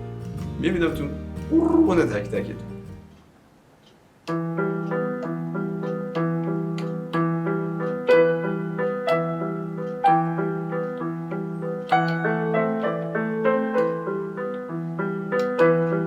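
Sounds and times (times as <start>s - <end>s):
piano music: 0.0s - 3.2s, 4.4s - 16.0s.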